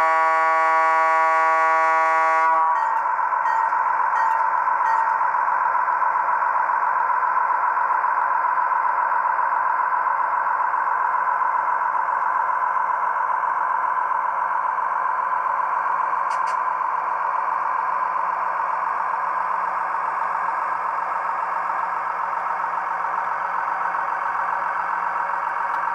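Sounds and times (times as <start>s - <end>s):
gas turbine whine from small speaker: 0.0s - 25.9s.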